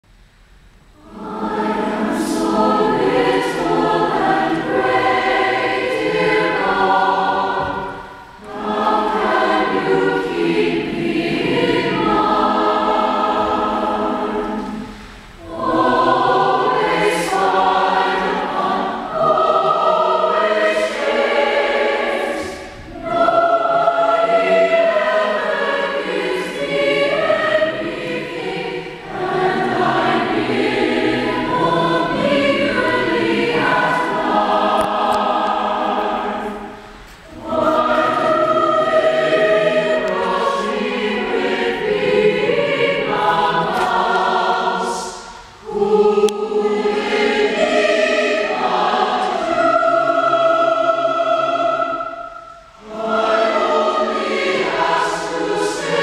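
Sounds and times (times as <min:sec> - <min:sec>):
choir breaths: 0:00.4 - 0:56.0
mixed choir singing: 0:00.9 - 0:56.0.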